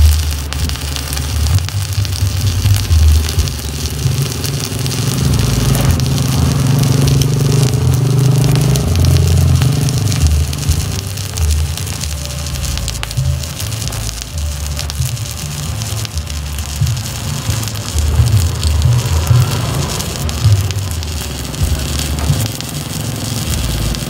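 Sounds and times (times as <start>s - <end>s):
welding arc crackling and sizzling: 0.0s - 24.0s.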